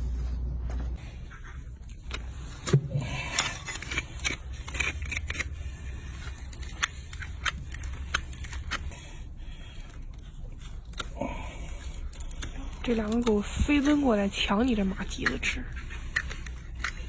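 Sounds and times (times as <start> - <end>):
hoof-trimming tools scraping: 1.0 - 17.0.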